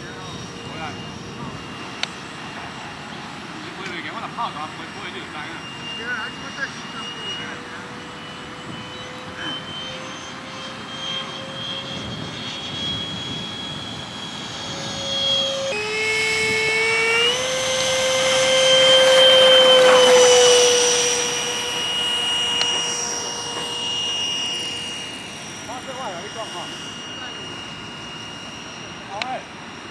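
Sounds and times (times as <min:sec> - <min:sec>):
model jet engine whine: 0:00.0 - 0:29.9.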